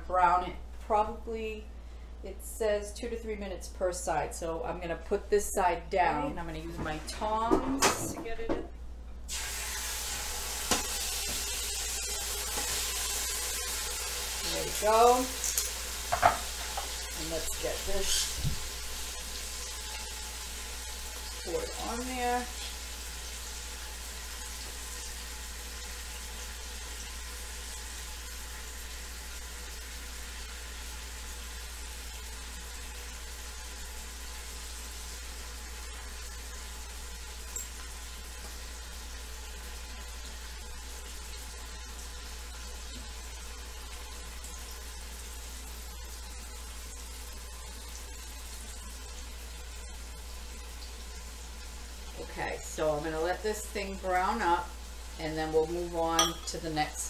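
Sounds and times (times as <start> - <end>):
low steady hum: 0.0 - 9.3, 13.5 - 57.0
meat sizzling: 9.3 - 57.0.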